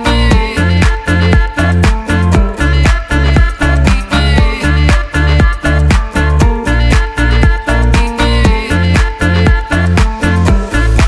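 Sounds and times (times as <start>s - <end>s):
dance music with deep bass: 0.0s - 11.0s.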